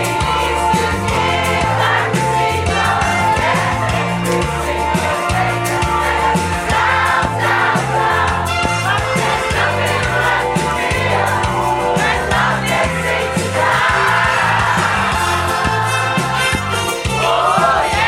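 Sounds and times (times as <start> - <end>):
backing track with beat and bass: 0.0 - 18.0
choir singing pop song: 0.0 - 18.0.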